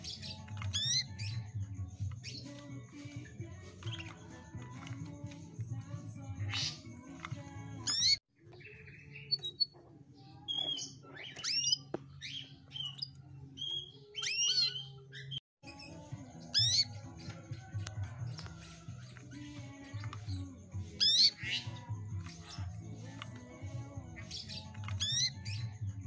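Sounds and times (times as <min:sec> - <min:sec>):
canary chirping and whistling: 0:00.0 - 0:09.8, 0:10.4 - 0:26.0.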